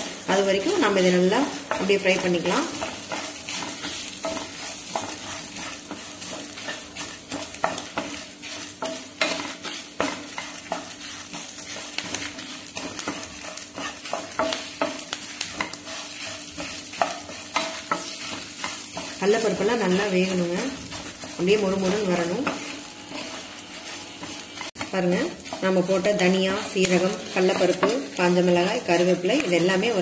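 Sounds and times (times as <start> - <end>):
spatula scraping a pan: 0.0 - 30.0
spices sizzling in oil: 0.0 - 30.0.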